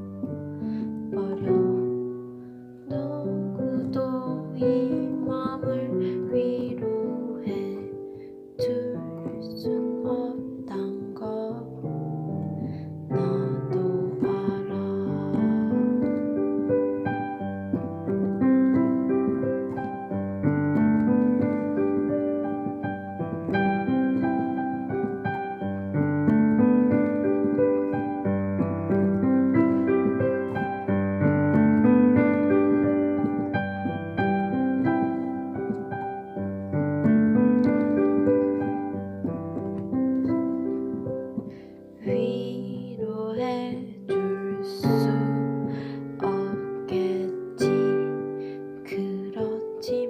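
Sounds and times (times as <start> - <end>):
gentle piano ballad: 0.0 - 50.0.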